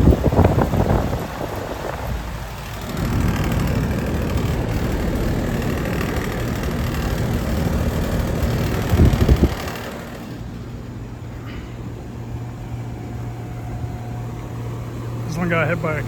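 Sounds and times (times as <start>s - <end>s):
air-conditioning units humming: 0.0s - 16.0s.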